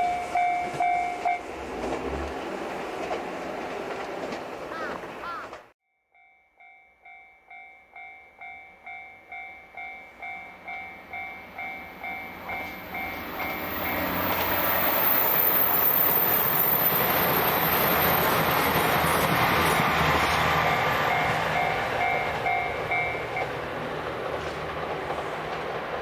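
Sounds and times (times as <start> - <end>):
diesel train passing: 0.0 - 5.8, 7.8 - 26.0.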